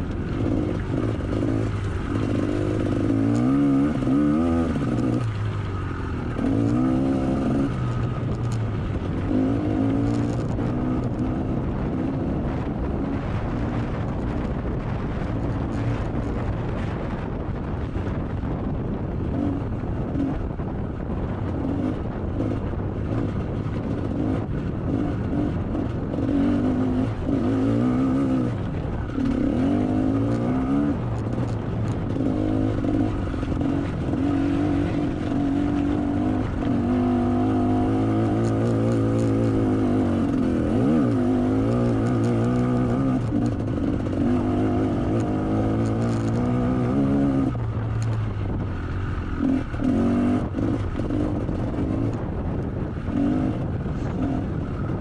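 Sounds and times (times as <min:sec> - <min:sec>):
two-stroke motocross engine revving: 0:00.0 - 0:08.5, 0:09.2 - 0:13.9, 0:21.5 - 0:55.0.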